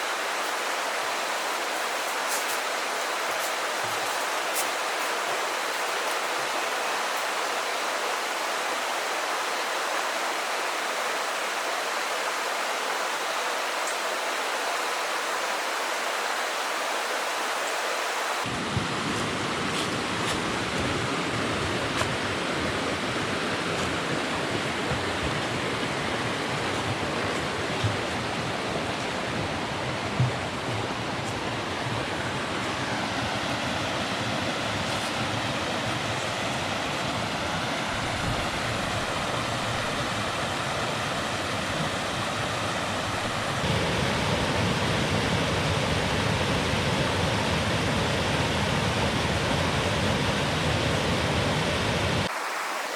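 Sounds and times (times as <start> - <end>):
flowing water rushing: 0.0 - 52.9.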